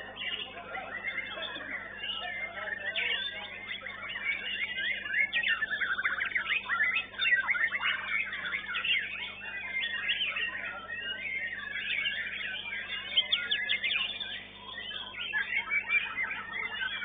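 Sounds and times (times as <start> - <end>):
birds singing whistles and trills: 0.0 - 17.0.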